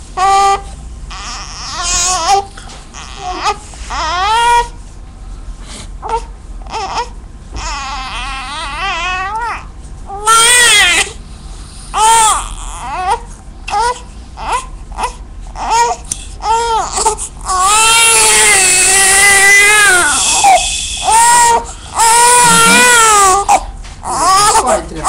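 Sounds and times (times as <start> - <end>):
newborn baby crying: 0.2 - 4.8, 6.0 - 11.2, 12.0 - 24.8.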